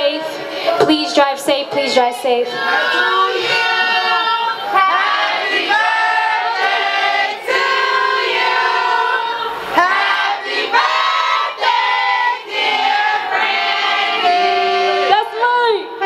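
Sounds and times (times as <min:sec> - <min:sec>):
voices singing in harmony: 0:02.2 - 0:15.2.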